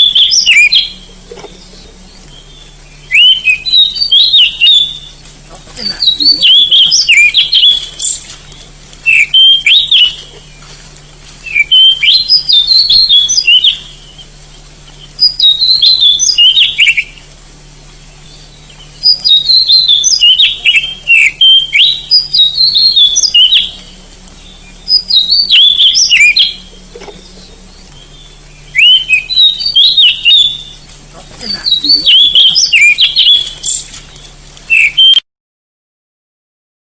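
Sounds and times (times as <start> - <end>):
bird singing whistled notes: 0.0 - 5.3, 5.9 - 10.7, 11.4 - 17.3, 18.0 - 35.2.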